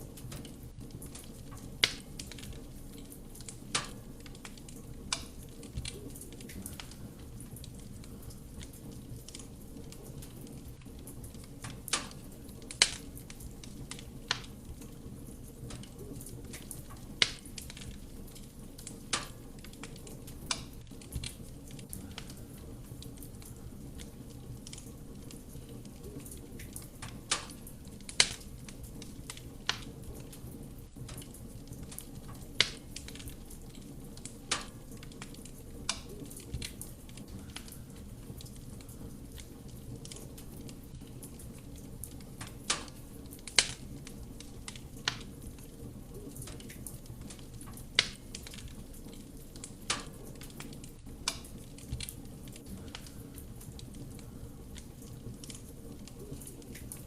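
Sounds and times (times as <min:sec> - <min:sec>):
fire flames roaring softly: 0:00.0 - 0:57.0
wood crackling and popping: 0:00.0 - 0:57.0.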